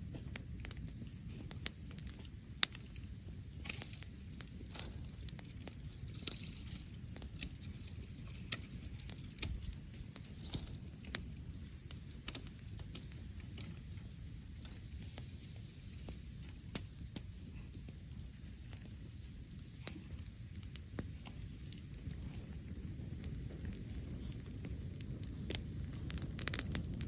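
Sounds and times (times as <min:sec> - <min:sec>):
low steady rumble: 0:00.0 - 0:27.0
wood fire crackling and popping: 0:00.0 - 0:27.0.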